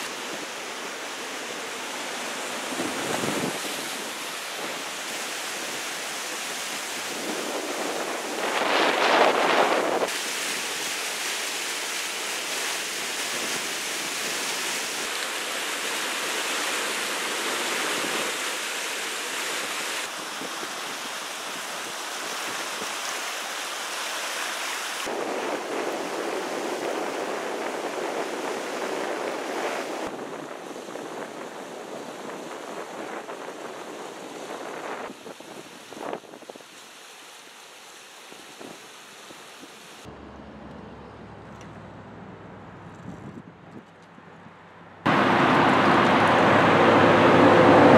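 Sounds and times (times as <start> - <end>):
floodwater rushing and splashing: 0.0 - 40.1, 45.1 - 47.9.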